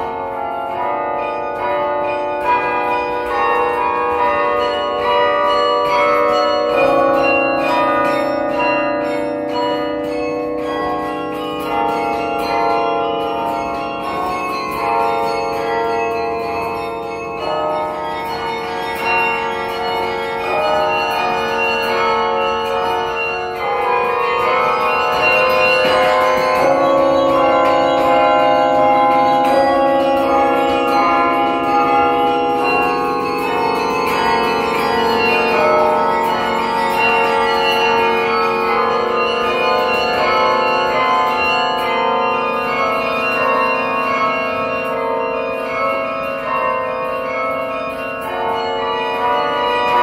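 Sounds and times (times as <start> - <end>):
carillon bells ringing: 0.0 - 50.0.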